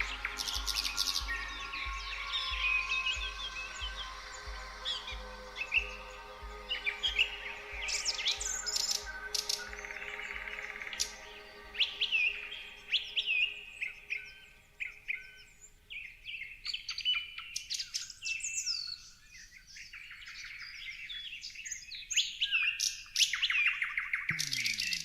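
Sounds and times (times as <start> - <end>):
songbirds chirping and twittering: 0.0 - 25.0.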